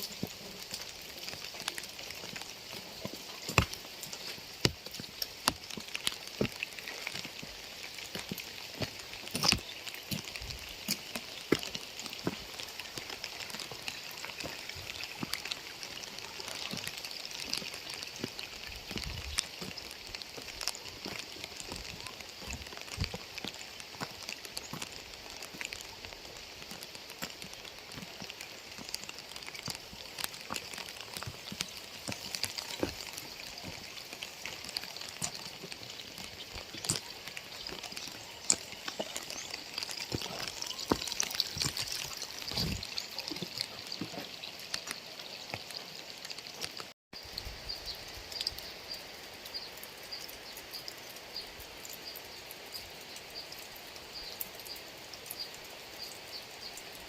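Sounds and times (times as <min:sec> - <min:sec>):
rain falling: 0:00.0 - 0:57.0
raindrops tapping: 0:00.0 - 0:57.0.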